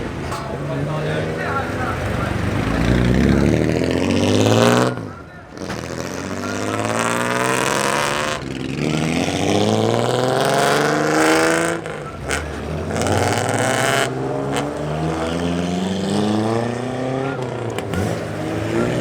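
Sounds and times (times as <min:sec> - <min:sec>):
car engine revving with loud exhaust: 0:00.0 - 0:19.0.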